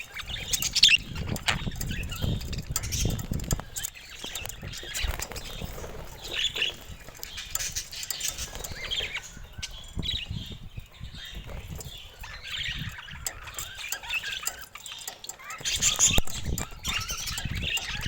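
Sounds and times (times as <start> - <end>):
budgerigars chirping: 0.0 - 18.0
wing flapping and rustling: 0.0 - 18.0.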